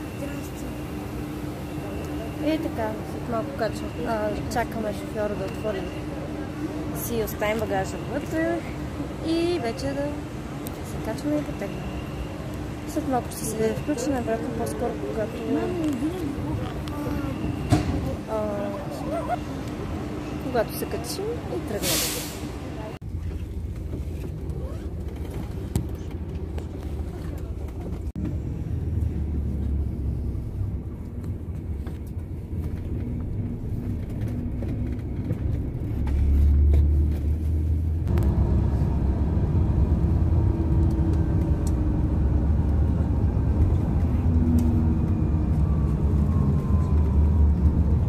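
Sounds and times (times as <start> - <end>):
bus engine and road rumble: 0.0 - 48.0.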